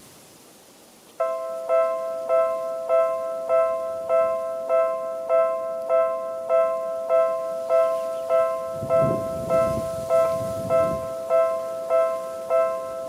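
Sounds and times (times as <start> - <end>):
level crossing electronic bell: 1.2 - 13.0.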